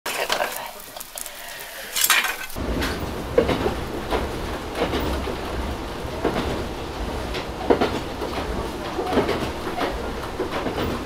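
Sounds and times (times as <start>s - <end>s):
train carriage rumble: 2.0s - 11.0s
wheels knocking over rails: 2.0s - 11.0s.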